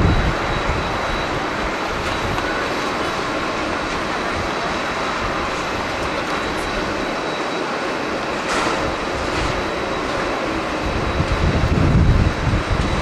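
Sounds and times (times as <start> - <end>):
distant jet engines roaring: 0.0 - 13.0.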